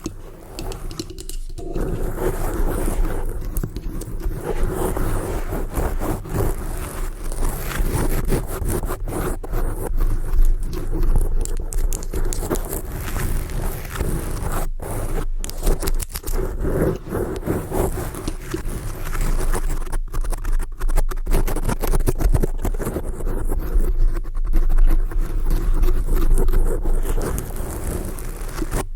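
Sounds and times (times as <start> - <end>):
fingernails scratching: 0.0 - 28.9.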